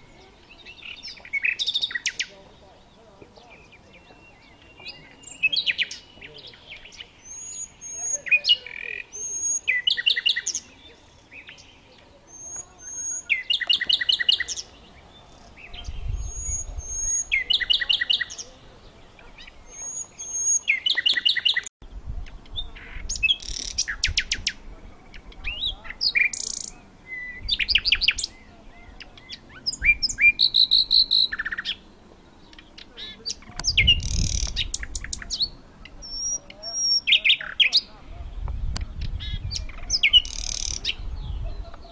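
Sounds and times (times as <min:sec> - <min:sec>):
nightingale singing: 0:00.0 - 0:41.9.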